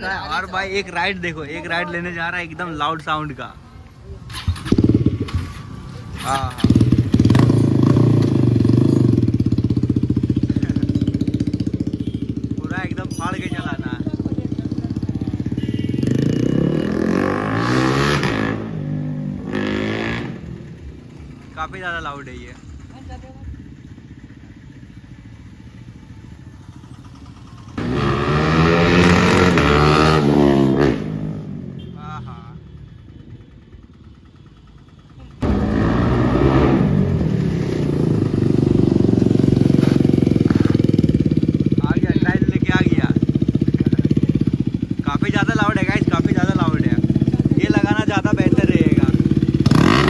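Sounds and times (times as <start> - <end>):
motorcycle engine accelerating: 4.2 - 50.0.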